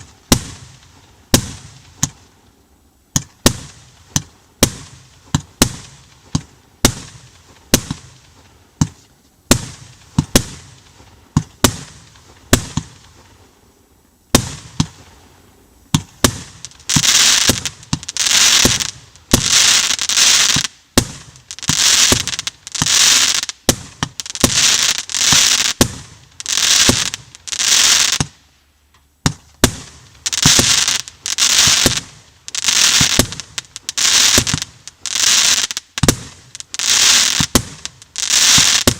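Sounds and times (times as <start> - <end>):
firework shots: 0.0 - 2.4, 3.1 - 13.5, 14.3 - 28.5, 29.2 - 38.9
loud hissing firework bursts: 0.0 - 38.9.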